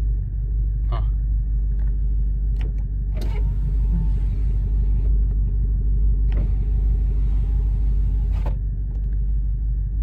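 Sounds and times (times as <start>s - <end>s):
car engine idling: 1.4s - 10.0s.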